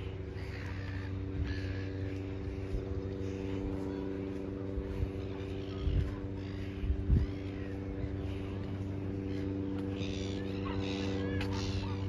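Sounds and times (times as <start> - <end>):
bird calls: 0.0 - 12.0
distant engine hum: 0.0 - 12.0.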